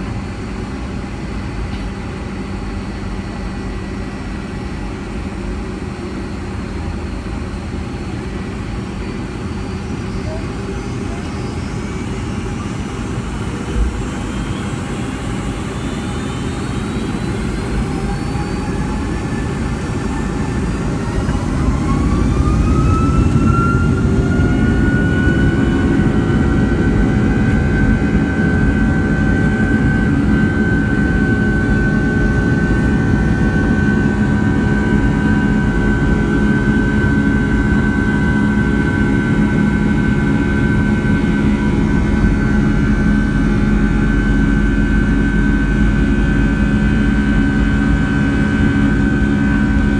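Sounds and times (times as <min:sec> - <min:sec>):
jet engine whine: 0:00.0 - 0:49.9.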